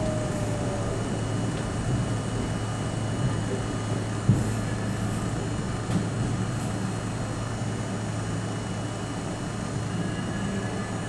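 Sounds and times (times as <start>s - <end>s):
constant low hum: 0.0s - 11.0s
subway train rumbling: 0.0s - 11.0s.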